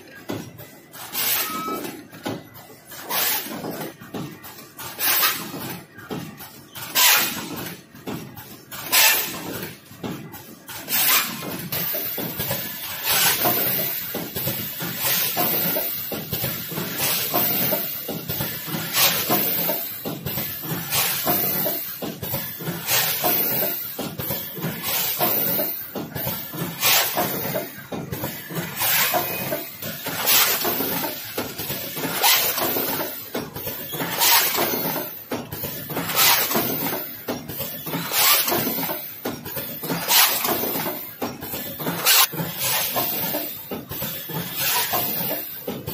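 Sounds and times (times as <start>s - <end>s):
machine mechanical clatter: 0.0s - 45.9s.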